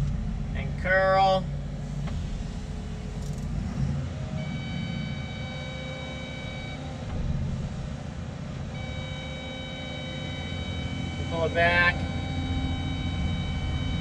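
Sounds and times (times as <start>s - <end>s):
diesel engine low drone: 0.0s - 14.0s
high-pitched whine: 0.0s - 14.0s.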